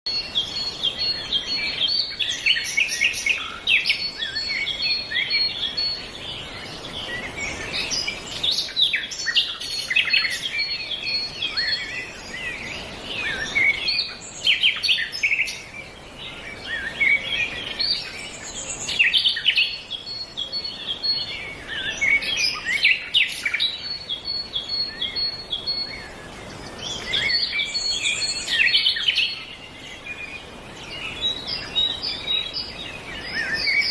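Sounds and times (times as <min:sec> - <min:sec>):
birds chirping and singing: 0:00.1 - 0:33.9.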